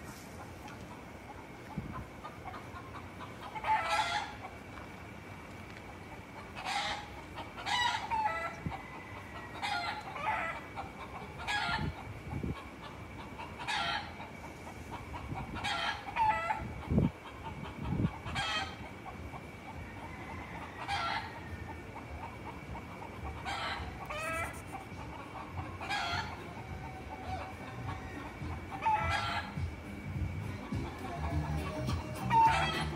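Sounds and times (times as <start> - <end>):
roosters calling and clucking: 0.0 - 32.9.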